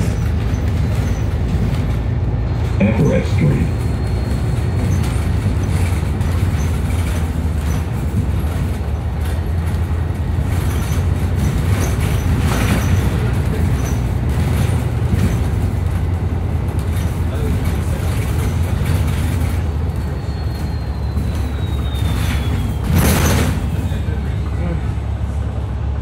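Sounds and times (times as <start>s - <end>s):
bus engine rumble: 0.0s - 26.0s
road noise: 0.0s - 26.0s.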